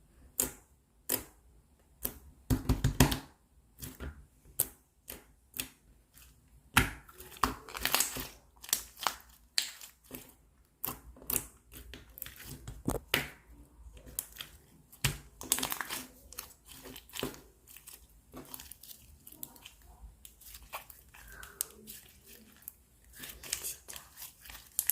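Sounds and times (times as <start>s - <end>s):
slime squishing: 3.7s - 24.9s.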